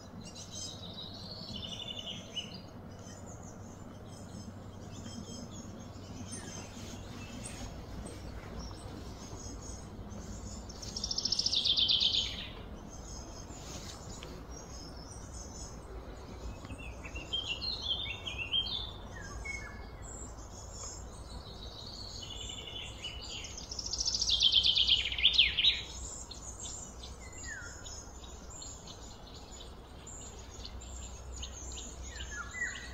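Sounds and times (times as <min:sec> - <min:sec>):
birds chirping: 0:00.0 - 0:32.9
low background hum: 0:00.0 - 0:32.9.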